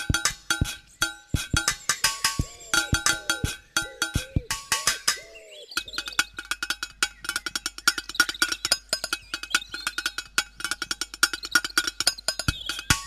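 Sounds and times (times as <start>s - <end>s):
music with clicking percussive beat: 0.0s - 13.0s.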